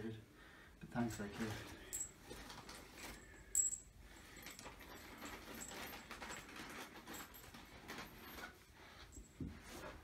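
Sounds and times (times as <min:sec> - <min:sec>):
soft rustling: 0:01.0 - 0:10.0.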